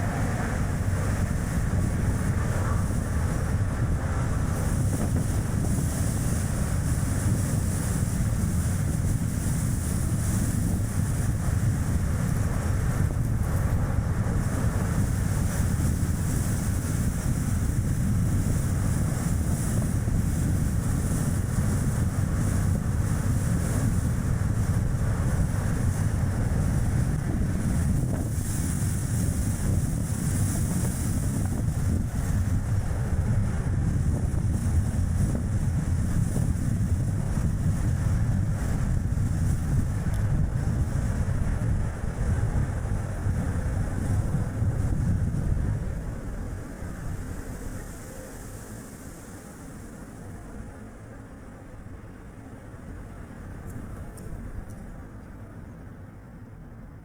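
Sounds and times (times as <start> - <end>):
car driving with road noise: 0.0 - 57.0
wind rushing over microphone: 0.0 - 57.0.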